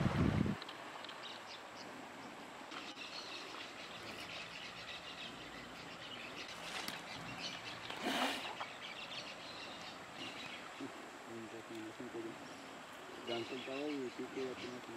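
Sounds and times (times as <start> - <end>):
steady background hiss: 0.0 - 14.9
birds chirping: 0.7 - 14.9.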